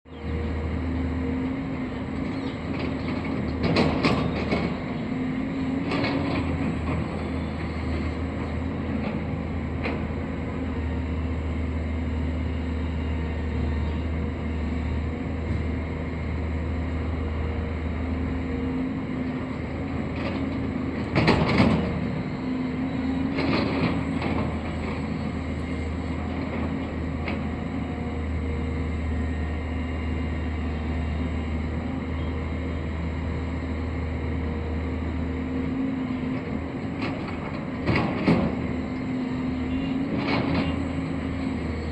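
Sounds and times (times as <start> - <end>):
construction machine engine running: 0.1 - 41.9.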